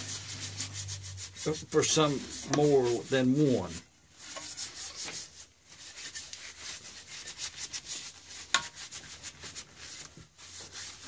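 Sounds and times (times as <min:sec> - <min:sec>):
hand file scraping on metal: 0:00.0 - 0:11.0.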